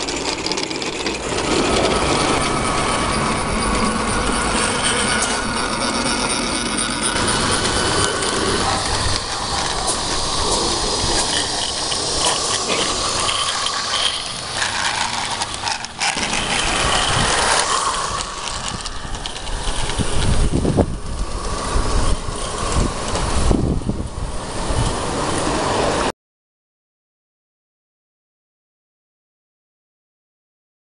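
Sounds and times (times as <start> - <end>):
wheels clicking over track: 0.0 - 26.1
steam locomotive hiss: 1.2 - 26.1.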